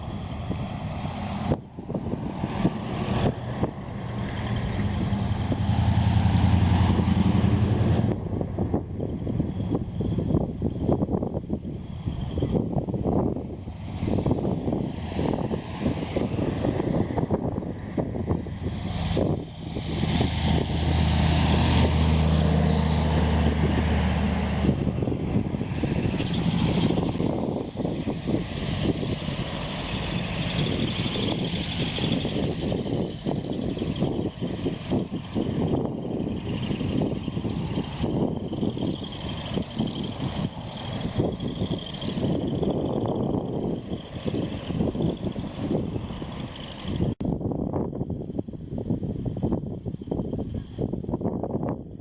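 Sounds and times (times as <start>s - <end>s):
truck engine running: 0.0s - 47.4s
wind buffeting microphone: 0.0s - 52.0s.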